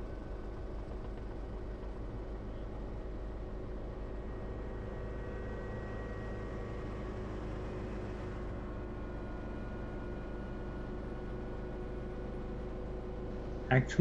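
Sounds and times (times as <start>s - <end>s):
helicopter engine and rotors drone: 0.0s - 14.0s.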